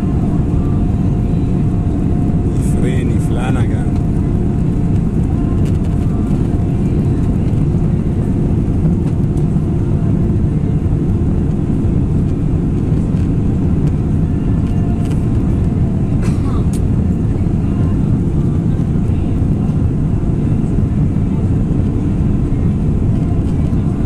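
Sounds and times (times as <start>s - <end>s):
aircraft cabin roar: 0.0s - 24.0s.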